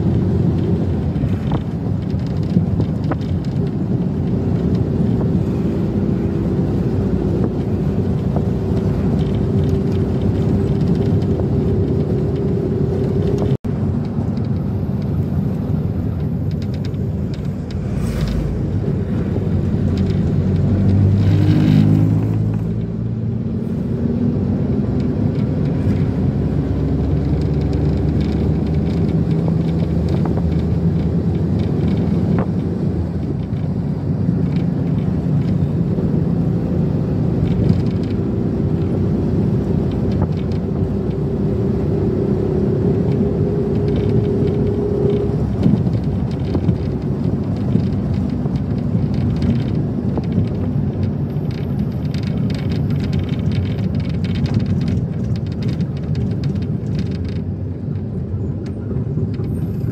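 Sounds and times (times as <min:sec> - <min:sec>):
vehicle engine hum from inside: 0:00.0 - 0:59.9.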